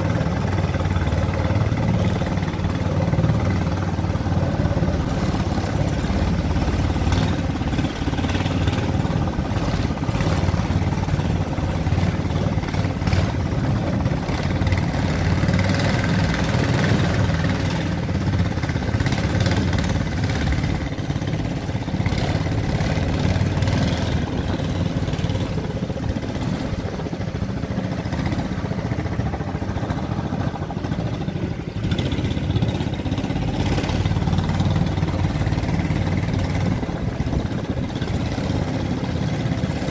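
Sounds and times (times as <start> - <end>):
boat motor droning: 0.0 - 39.9.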